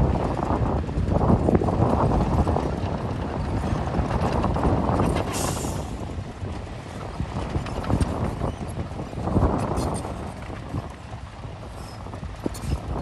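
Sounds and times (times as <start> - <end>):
crawler tracks clanking: 0.0 - 13.0
heavy machinery engine rumble: 0.0 - 13.0.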